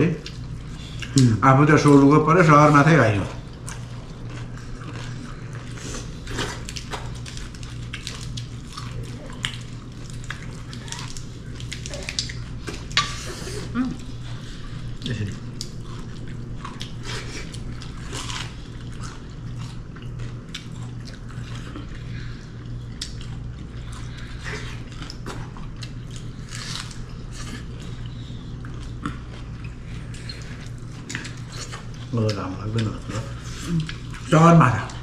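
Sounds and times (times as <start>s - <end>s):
people chewing food: 0.0s - 35.0s.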